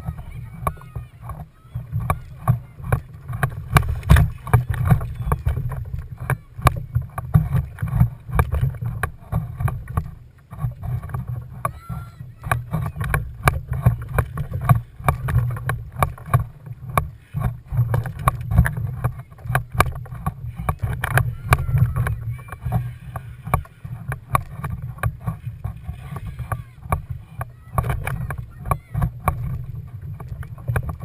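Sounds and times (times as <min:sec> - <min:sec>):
steady low rumble: 0:00.0 - 0:31.0
water splashing against kayak hull: 0:00.0 - 0:31.0.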